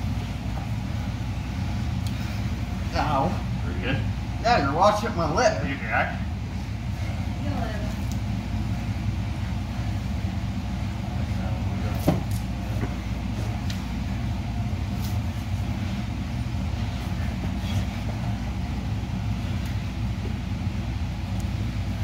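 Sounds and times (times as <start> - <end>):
low room rumble: 0.0 - 22.0.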